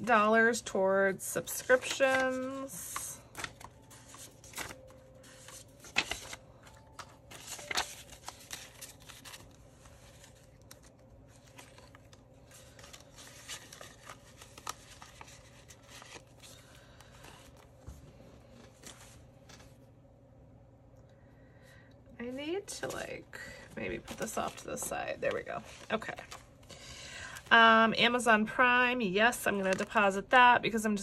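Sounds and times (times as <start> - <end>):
faint steady hum: 0.0 - 31.0
banknotes rustling: 1.2 - 19.8, 22.7 - 27.6, 29.3 - 30.8.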